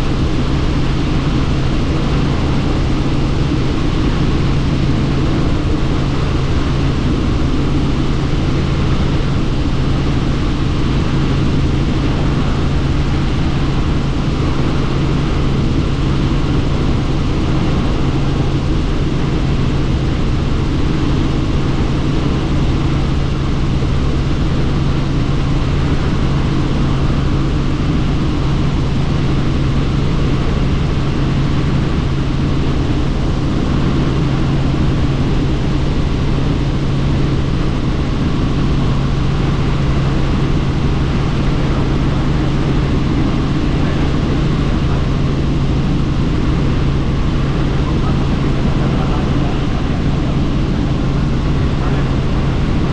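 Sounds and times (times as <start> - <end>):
helicopter rotor and engine drone: 0.0 - 52.9
rushing wind: 0.0 - 52.9.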